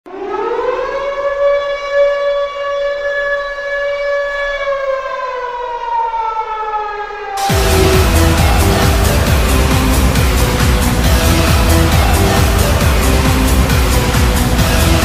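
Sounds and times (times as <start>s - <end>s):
goal horn siren tone: 0.1s - 15.0s.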